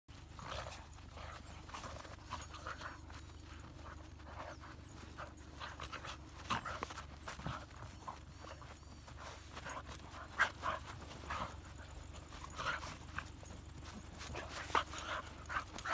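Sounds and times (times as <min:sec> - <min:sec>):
dogs panting: 0:00.1 - 0:15.9
paws scuffling in snow: 0:00.1 - 0:15.9.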